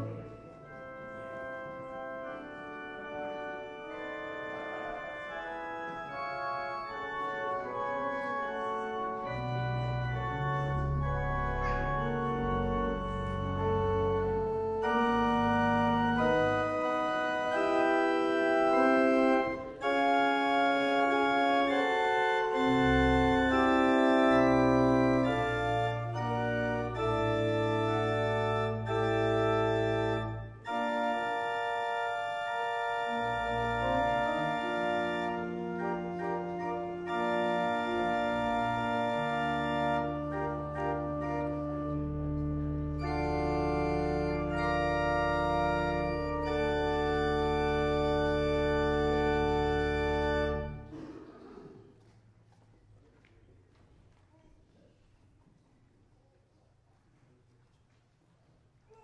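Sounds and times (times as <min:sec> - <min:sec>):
deep organ pedal bass: 0:00.0 - 0:51.0
church organ chords: 0:00.0 - 0:51.8.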